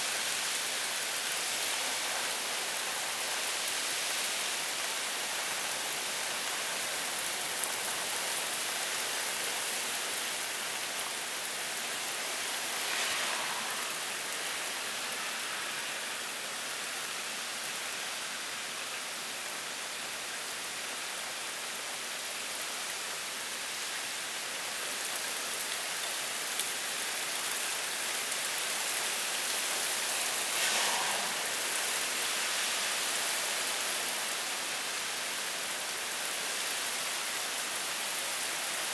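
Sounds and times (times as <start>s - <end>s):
heavy rain hissing: 0.0s - 21.0s, 22.8s - 38.9s.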